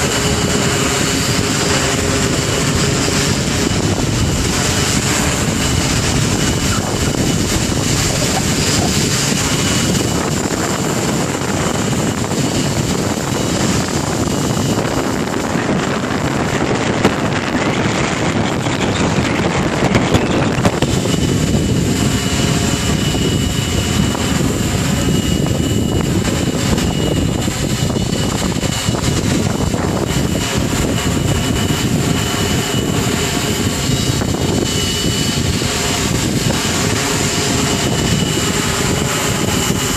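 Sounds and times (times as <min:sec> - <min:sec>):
drone propellers whirring: 0:00.0 - 0:39.9
wind rumble on microphone: 0:00.0 - 0:39.9.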